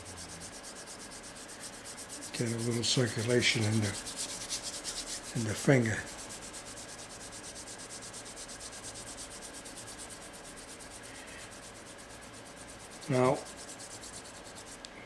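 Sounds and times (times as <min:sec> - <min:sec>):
fingers rubbing together: 0:00.0 - 0:14.9.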